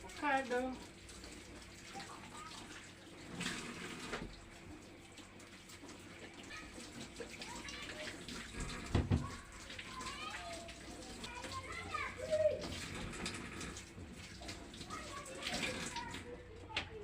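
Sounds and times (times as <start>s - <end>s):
water running from a tap: 0.0s - 17.0s.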